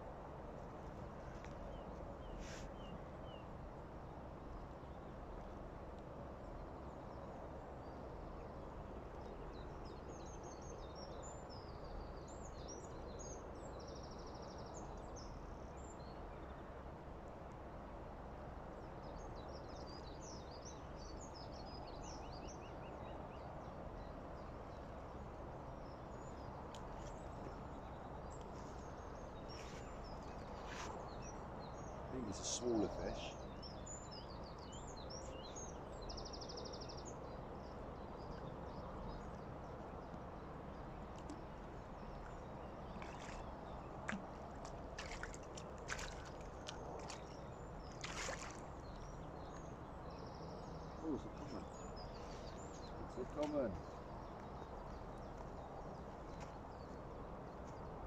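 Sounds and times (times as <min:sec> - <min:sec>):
outdoor background noise: 0:00.0 - 0:58.0
small birds chirping: 0:06.8 - 0:16.6, 0:18.8 - 0:58.0.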